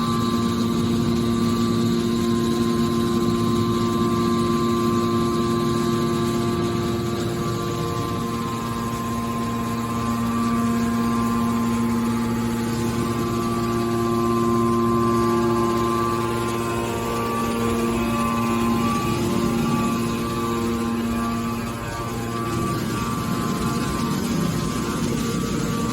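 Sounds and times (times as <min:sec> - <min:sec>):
hydraulic machine hum and whine: 0:00.0 - 0:25.9.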